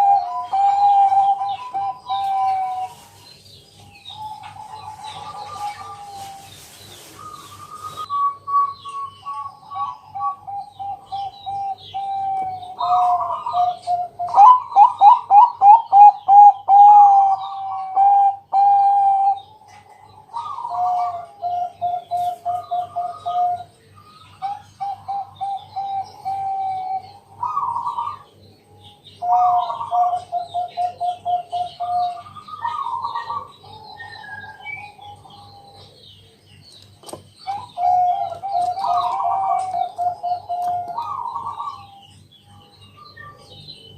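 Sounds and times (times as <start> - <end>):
dove cooing: 0.0 - 3.2, 3.9 - 23.7, 24.4 - 36.2, 37.4 - 43.7.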